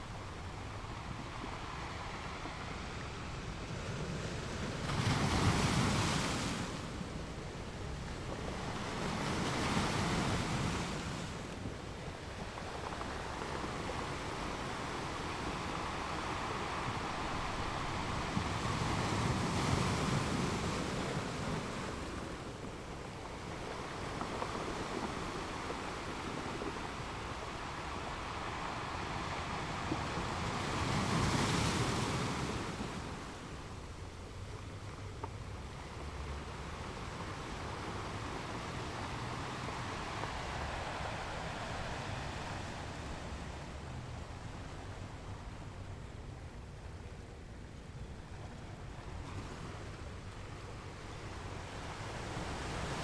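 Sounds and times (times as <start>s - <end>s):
ocean waves washing onto shore: 0.0s - 47.6s, 48.2s - 53.0s.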